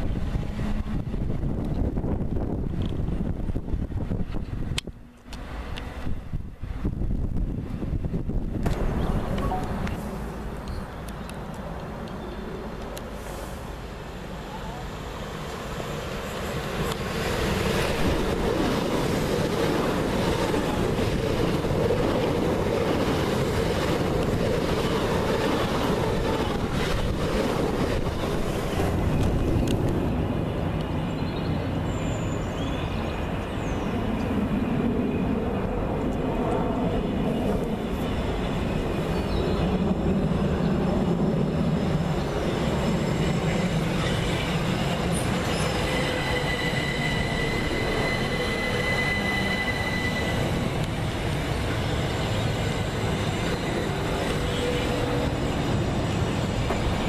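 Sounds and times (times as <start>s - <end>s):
train motor hum and whine: 0.0s - 34.3s, 37.0s - 57.0s
train wheels rushing on rail: 0.0s - 57.0s.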